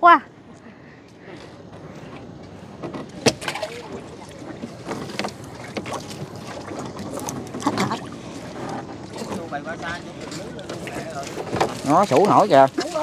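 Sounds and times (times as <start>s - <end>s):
knocks and thuds in a boat: 1.4s - 13.0s.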